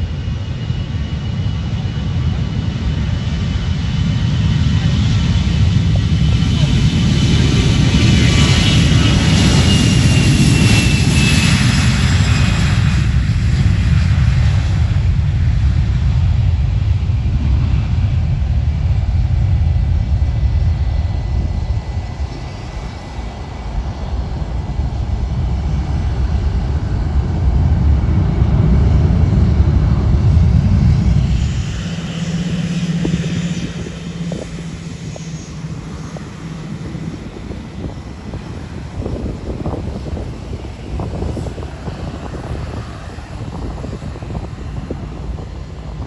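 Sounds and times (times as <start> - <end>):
airplane passing close by: 0.0 - 46.0.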